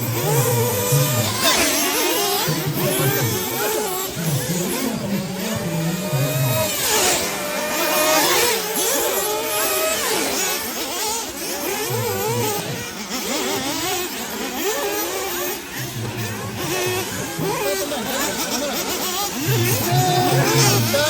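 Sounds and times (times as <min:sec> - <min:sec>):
rc car engines whining: 0:00.0 - 0:21.0.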